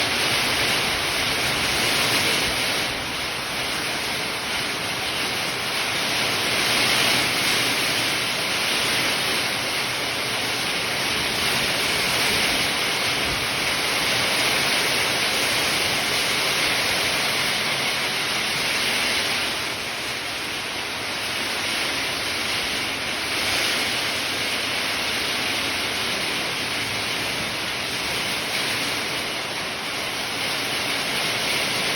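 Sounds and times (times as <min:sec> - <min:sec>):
strong wind rushing: 0:00.0 - 0:30.2.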